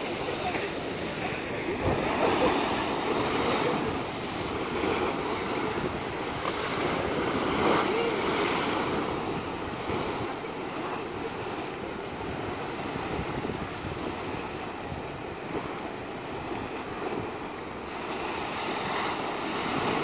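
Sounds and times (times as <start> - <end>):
sea waves crashing against seawall: 0.0 - 20.0.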